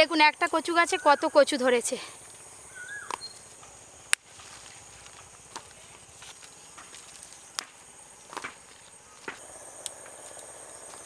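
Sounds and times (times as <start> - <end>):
soil and roots crackling: 0.0 - 11.0.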